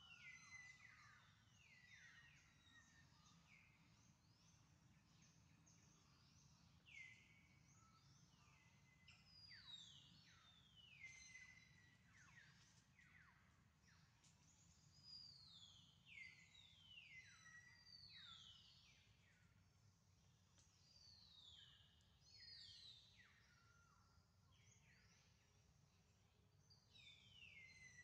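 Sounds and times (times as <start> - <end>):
faint birdsong: 0.0 - 28.0.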